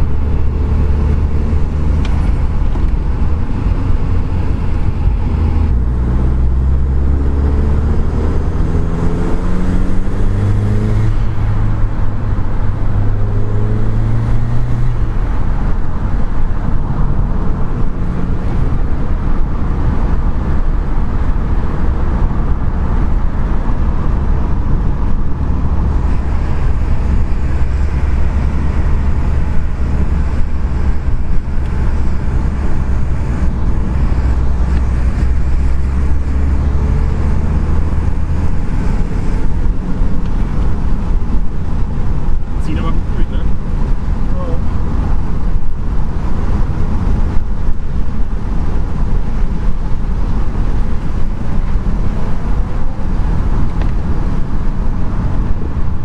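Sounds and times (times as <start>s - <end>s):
car engine revving: 0.0s - 56.0s
engine tyres and wind rumble: 0.0s - 56.0s.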